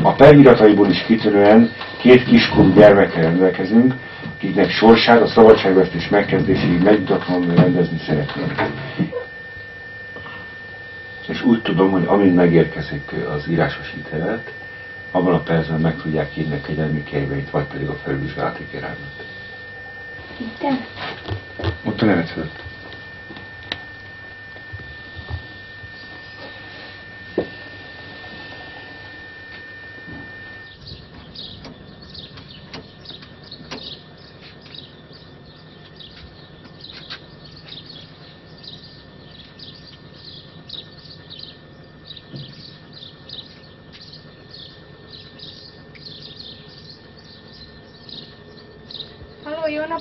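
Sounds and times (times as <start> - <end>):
birds chirping busily: 0.0 - 50.0
high-pitched whine: 0.0 - 50.0.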